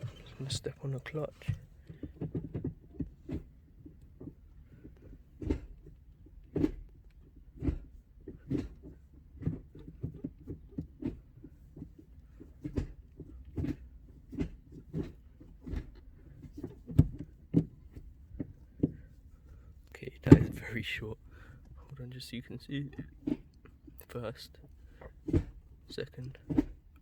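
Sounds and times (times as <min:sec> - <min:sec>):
gear lever clunks and clicks: 0:00.0 - 0:19.2, 0:20.0 - 0:27.0.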